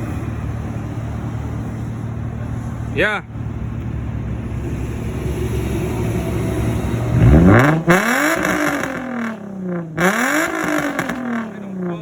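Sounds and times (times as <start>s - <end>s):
car exhaust idling and revving: 0.0s - 12.0s.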